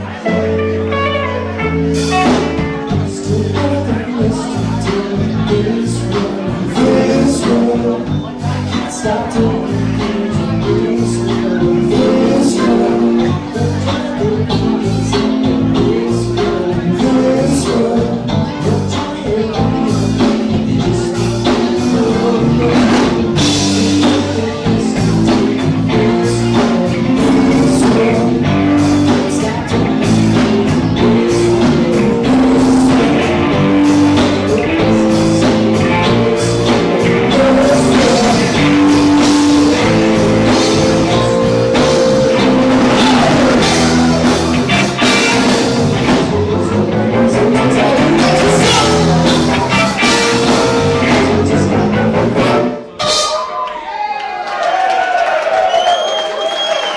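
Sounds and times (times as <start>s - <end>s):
electric guitars: 0.0s - 53.4s
bass guitar: 0.0s - 53.5s
drum kit: 0.0s - 53.6s.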